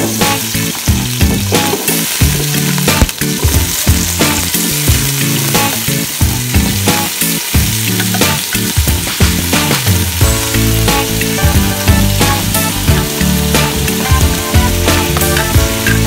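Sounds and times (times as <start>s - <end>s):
background music: 0.0s - 16.0s
potatoes sizzling in hot oil: 0.0s - 16.0s.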